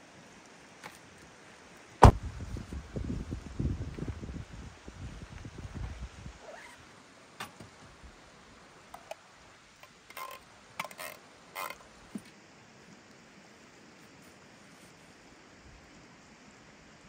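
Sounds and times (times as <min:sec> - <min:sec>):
camp stove hiss: 0:00.0 - 0:17.0.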